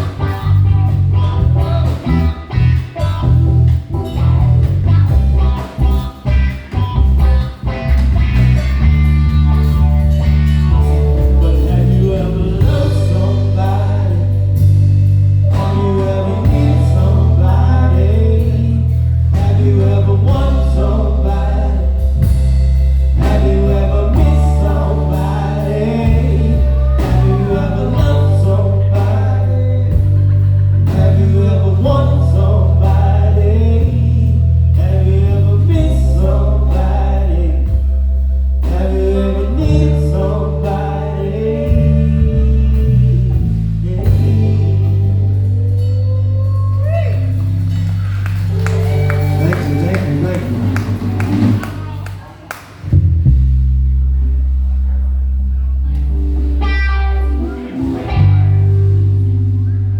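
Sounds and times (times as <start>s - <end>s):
lead melody line: 0.0s - 51.7s, 52.9s - 59.9s
drums: 0.0s - 55.0s
bass guitar: 0.0s - 59.9s
keyboards: 0.0s - 59.9s.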